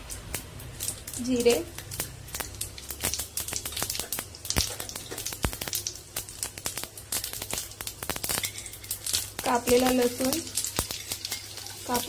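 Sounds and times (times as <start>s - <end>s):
seeds sizzling and popping in oil: 0.0s - 12.0s.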